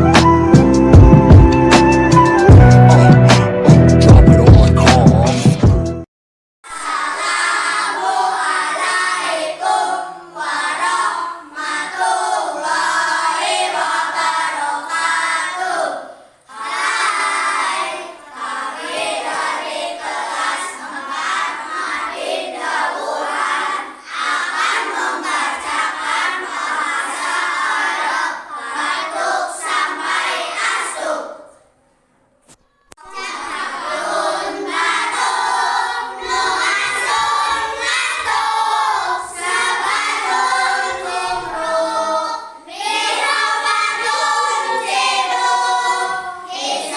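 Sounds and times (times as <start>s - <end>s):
children singing together: 6.7s - 31.7s, 32.5s - 46.9s.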